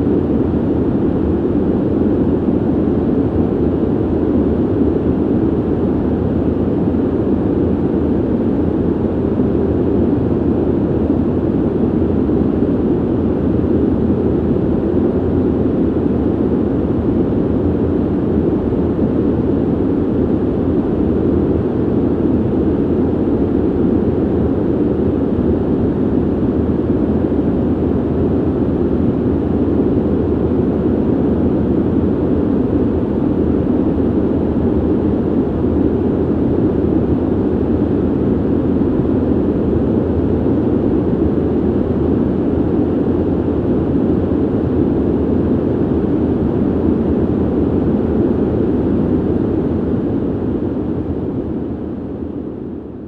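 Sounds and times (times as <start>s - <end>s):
ventilation air rushing: 0.0s - 53.0s.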